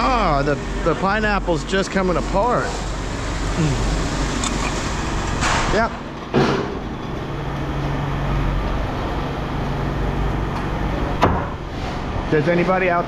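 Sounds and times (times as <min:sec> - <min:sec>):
mechanical drone with low hum: 0:00.0 - 0:13.0.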